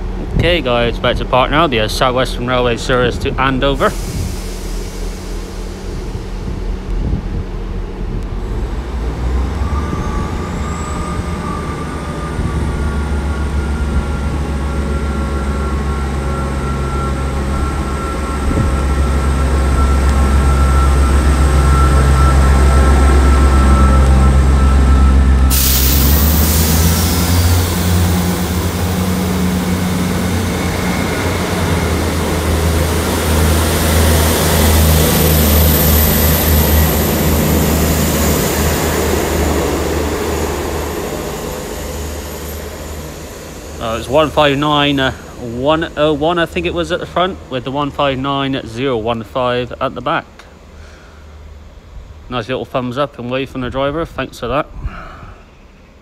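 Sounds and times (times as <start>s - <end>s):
loud rushing of passing train: 0.0s - 52.4s
diesel train engines under load: 0.0s - 56.0s.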